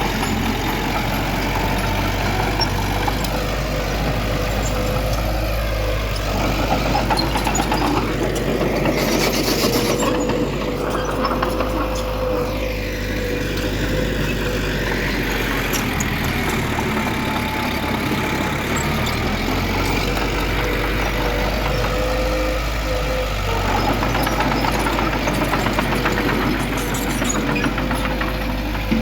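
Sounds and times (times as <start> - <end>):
diesel machinery rumbling: 0.0 - 29.0.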